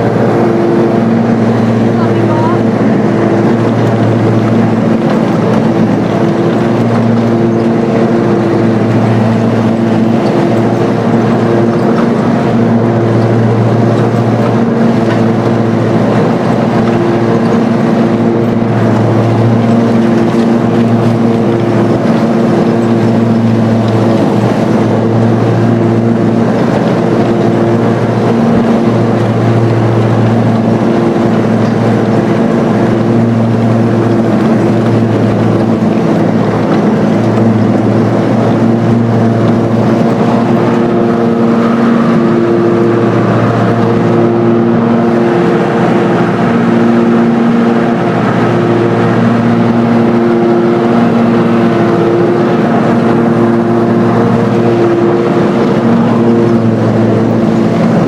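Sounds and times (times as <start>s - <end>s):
lawn tractor engine humming: 0.0s - 58.0s.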